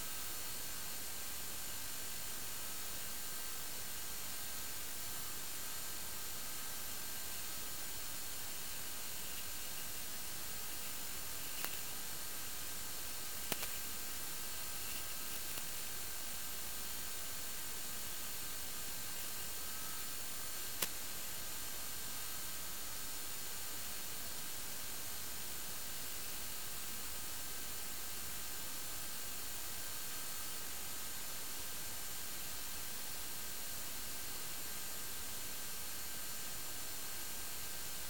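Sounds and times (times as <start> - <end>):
static hiss: 0.0 - 38.0.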